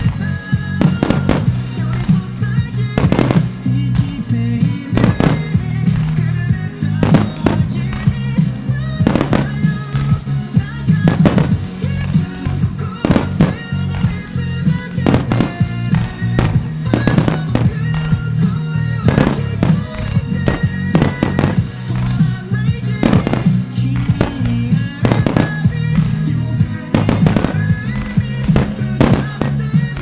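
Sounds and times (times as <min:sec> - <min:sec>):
fireworks bursting with sharp bangs: 0:00.0 - 0:30.0
loud pop song: 0:00.0 - 0:30.0.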